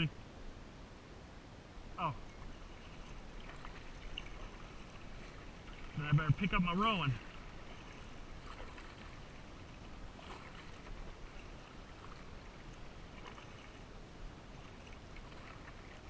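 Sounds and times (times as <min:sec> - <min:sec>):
paddle pulling through water: 0:01.0 - 0:16.0
faint water splash: 0:02.0 - 0:16.0.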